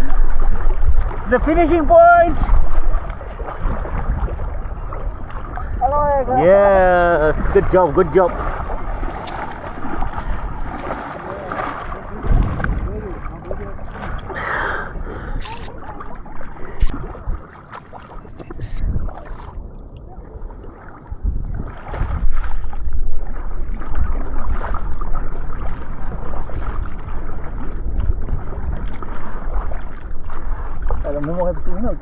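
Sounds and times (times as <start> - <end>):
kayak paddles splashing: 0.0 - 32.0
low rumble on microphone: 0.0 - 32.0
water sloshing: 0.0 - 32.0.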